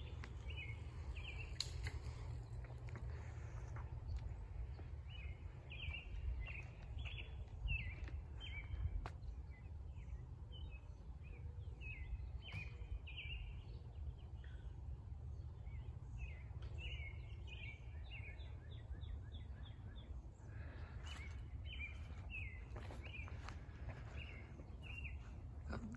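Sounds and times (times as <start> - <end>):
steady low rumble: 0.0 - 25.9.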